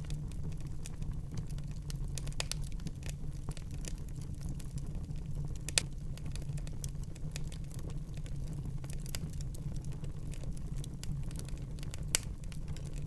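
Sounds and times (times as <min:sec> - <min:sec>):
fire crackles and pops: 0:00.0 - 0:13.0
low rumble of flames: 0:00.0 - 0:13.0.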